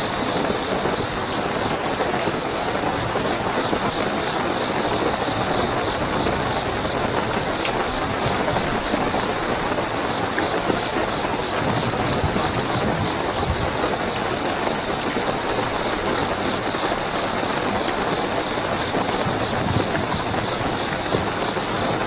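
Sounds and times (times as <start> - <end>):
crickets trilling: 0.0 - 22.0
heavy rainfall: 0.0 - 22.0.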